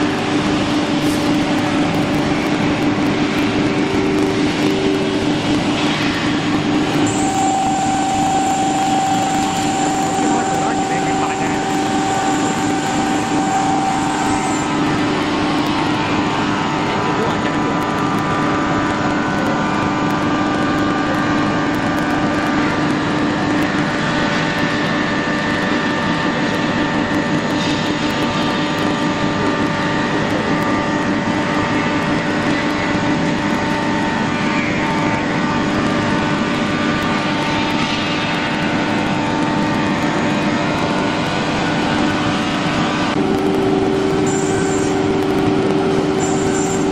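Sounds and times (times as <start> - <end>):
wood router machine whine: 0.0 - 46.9.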